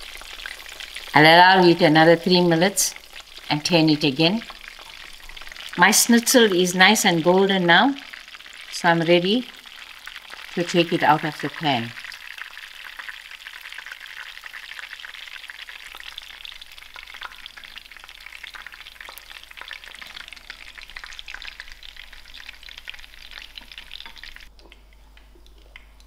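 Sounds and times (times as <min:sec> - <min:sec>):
meat sizzling in oil: 0:00.0 - 0:24.5.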